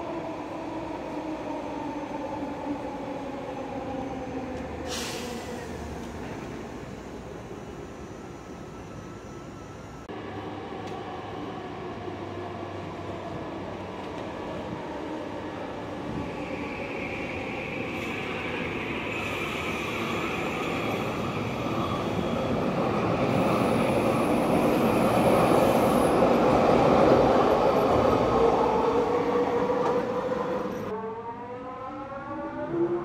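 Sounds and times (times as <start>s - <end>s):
metro train approaching: 0.0s - 33.0s.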